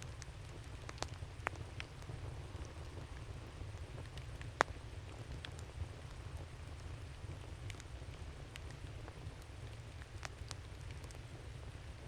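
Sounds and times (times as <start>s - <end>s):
campfire crackling and popping: 0.1s - 12.0s.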